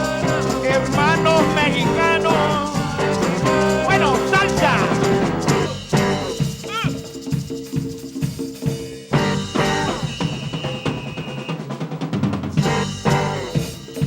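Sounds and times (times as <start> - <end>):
drum kit and percussion: 0.0 - 14.0
salsa band playing: 0.0 - 14.0.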